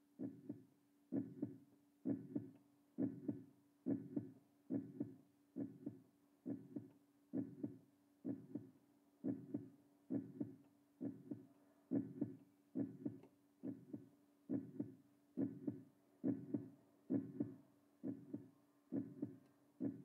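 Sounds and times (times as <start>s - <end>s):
faint steady hum: 0.0s - 20.0s
heartbeat double thump: 0.2s - 20.0s.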